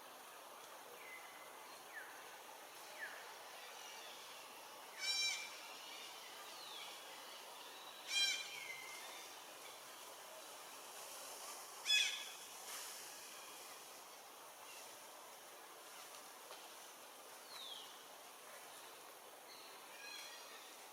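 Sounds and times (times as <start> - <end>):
outdoor background hiss: 0.0 - 20.9.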